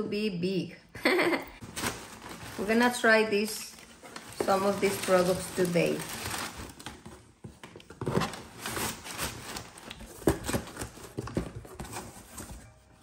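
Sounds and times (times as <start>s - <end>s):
packaging rustling: 1.6s - 12.8s.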